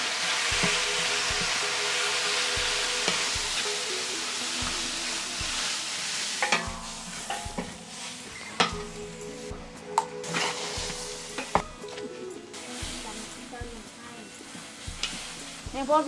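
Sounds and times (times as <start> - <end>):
paste sizzling in hot oil: 0.0 - 9.6, 10.2 - 12.0, 12.6 - 16.0.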